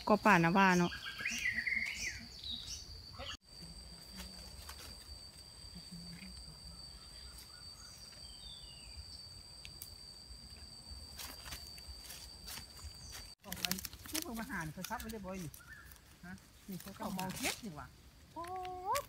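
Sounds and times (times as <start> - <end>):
higher insect tone: 0.0 - 19.0
insects shrilling: 0.0 - 19.0.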